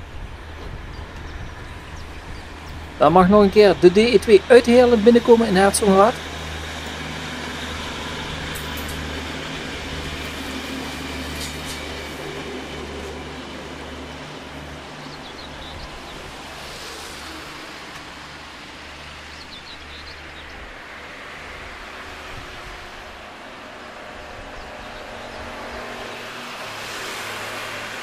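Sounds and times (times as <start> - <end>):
diesel train engine drone: 0.0 - 28.0.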